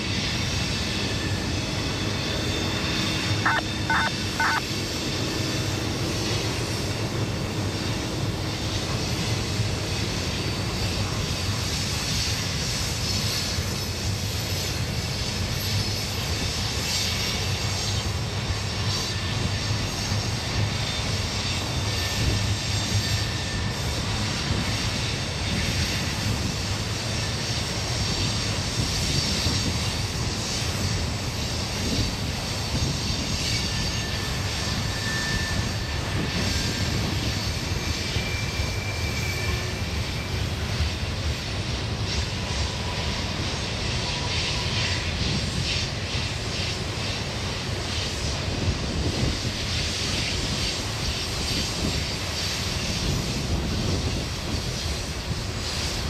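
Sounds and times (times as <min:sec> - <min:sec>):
freight train wheels on rail: 0:00.0 - 0:56.0.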